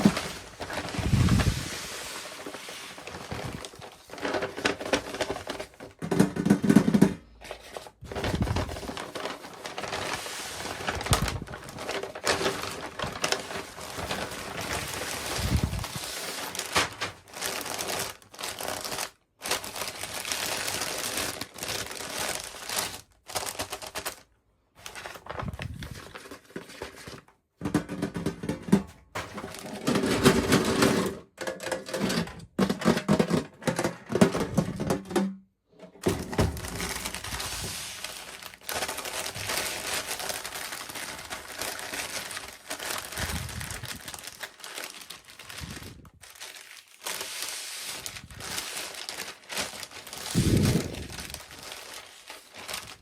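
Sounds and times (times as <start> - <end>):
packaging crinkling: 0.0 - 6.0, 7.4 - 27.1, 36.0 - 53.0.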